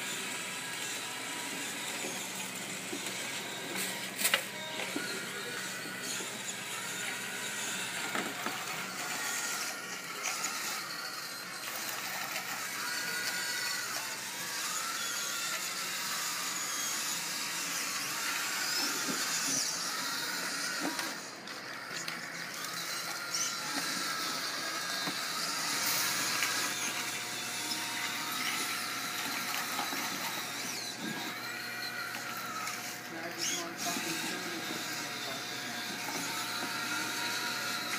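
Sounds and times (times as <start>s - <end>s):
toy electric motors whining: 0.0s - 37.9s.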